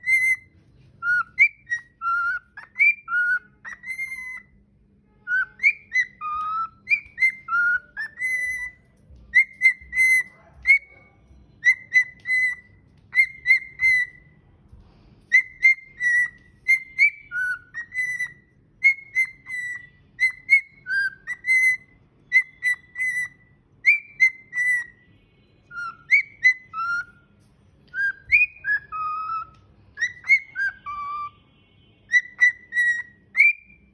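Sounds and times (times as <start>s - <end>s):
cockatiel whistling: 0.0s - 4.6s, 5.2s - 14.4s, 15.3s - 25.0s, 25.6s - 31.4s, 32.1s - 33.9s.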